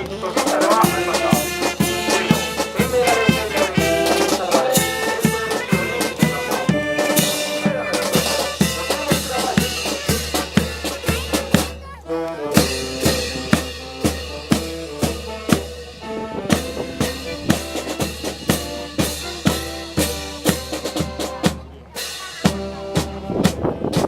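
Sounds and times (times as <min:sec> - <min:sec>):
brass band playing a march: 0:00.0 - 0:24.0.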